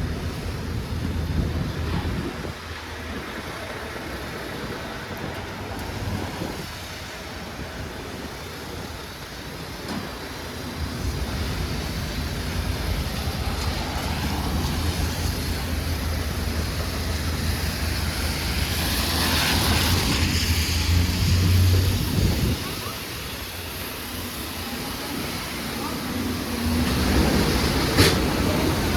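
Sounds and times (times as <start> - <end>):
heavy vehicle engine rumbling: 0.0 - 28.9.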